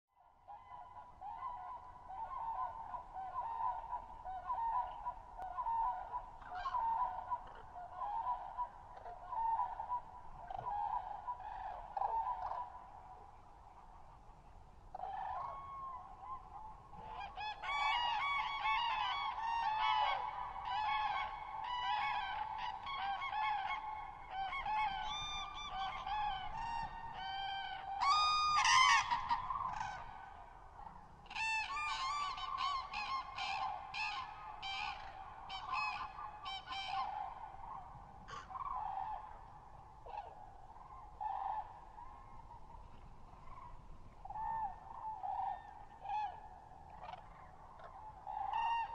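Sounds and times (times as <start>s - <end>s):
cranes bugling calls: 0.5s - 13.0s, 14.9s - 30.6s, 31.2s - 42.6s, 43.4s - 48.9s.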